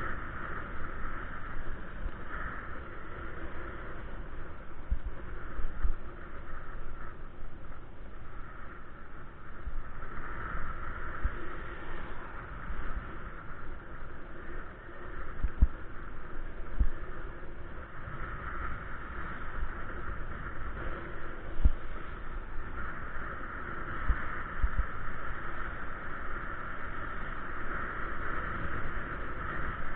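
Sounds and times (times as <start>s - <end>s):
rushing road and wind noise: 0.0s - 29.9s
wind buffeting microphone: 0.0s - 29.9s.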